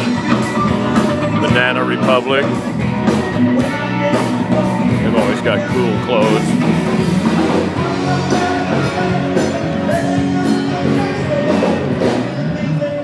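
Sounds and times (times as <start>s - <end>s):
person singing: 0.0s - 13.0s
rock music with electric guitar: 0.0s - 13.0s.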